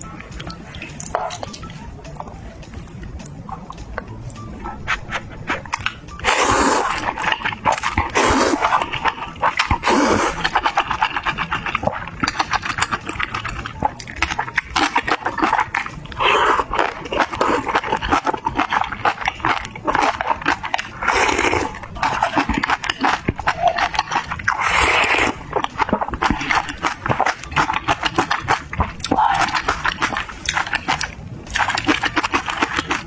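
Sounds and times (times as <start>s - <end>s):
wet chewing with crunches: 0.0s - 33.0s
slurping noodles: 6.2s - 33.0s.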